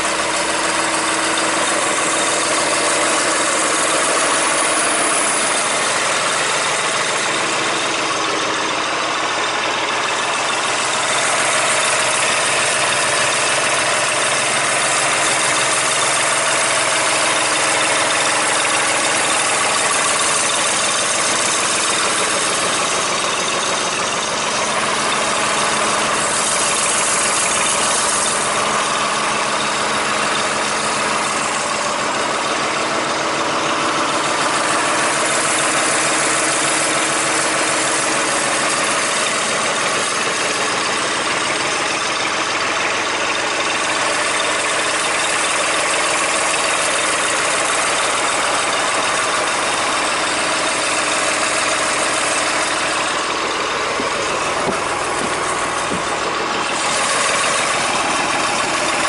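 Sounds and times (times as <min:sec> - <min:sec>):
backhoe engine idling: 0:00.0 - 0:59.0.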